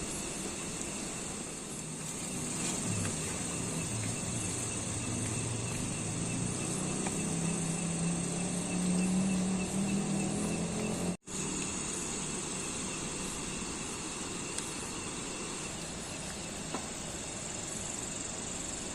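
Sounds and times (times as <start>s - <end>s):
insects chirping: 0.0s - 18.9s
steady hiss: 0.0s - 18.9s.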